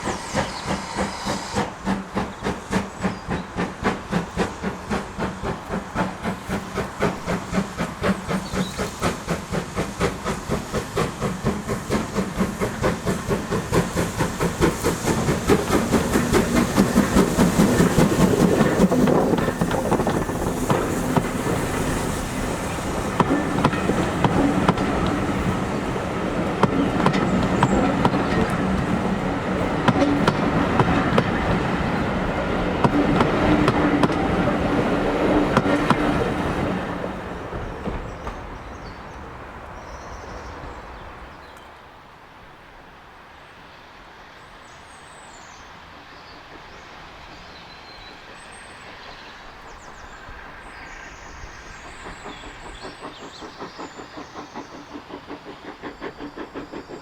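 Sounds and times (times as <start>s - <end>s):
train wheels clattering: 0.0s - 39.2s, 47.8s - 57.0s.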